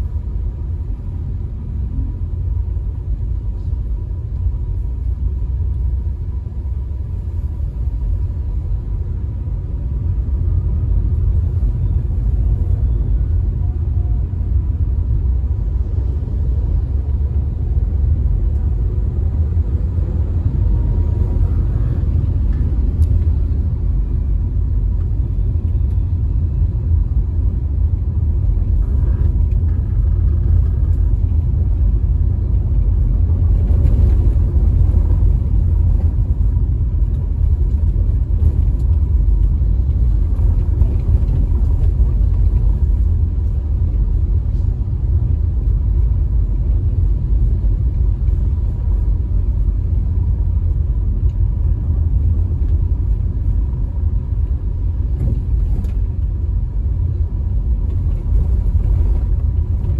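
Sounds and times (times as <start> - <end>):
car interior road rumble: 0.0 - 59.9.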